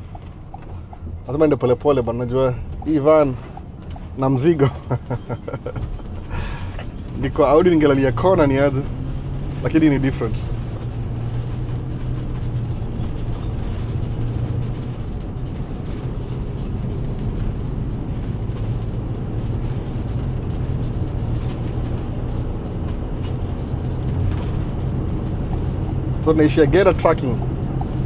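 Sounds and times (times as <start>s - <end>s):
vehicle engine and road drone: 0.0s - 28.0s.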